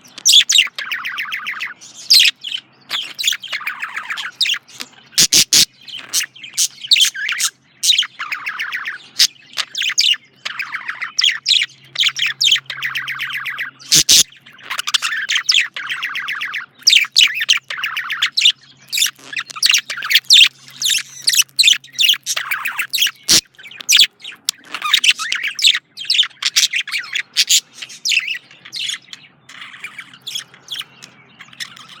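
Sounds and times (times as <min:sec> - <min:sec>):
budgerigar chirping and warbling: 0:00.0 - 0:32.0.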